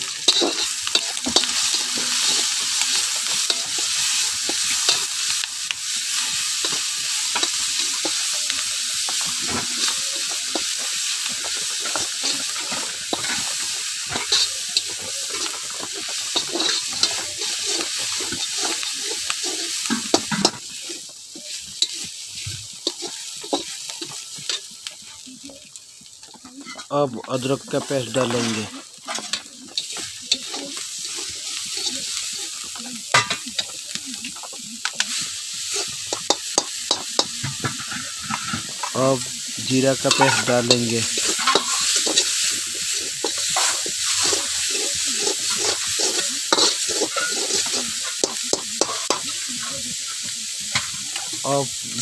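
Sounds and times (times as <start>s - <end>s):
metal spatula scraping pan: 0.0s - 5.5s, 6.1s - 25.0s, 26.6s - 35.1s, 35.7s - 39.0s, 39.9s - 49.9s
onions sizzling in oil: 0.0s - 52.0s.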